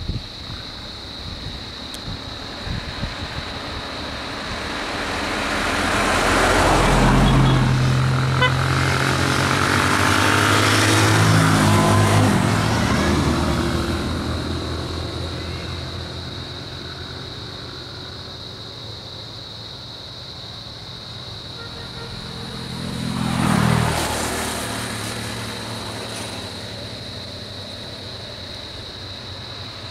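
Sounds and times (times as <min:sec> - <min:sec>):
vans driving past: 0:00.9 - 0:29.9.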